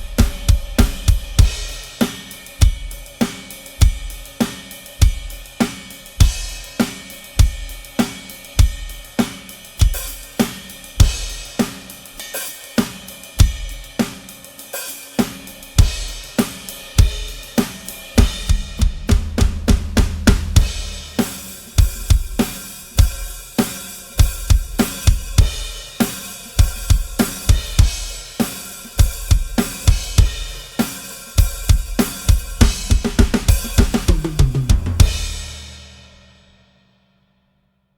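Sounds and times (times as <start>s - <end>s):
drum kit playing groove: 0.0s - 36.6s.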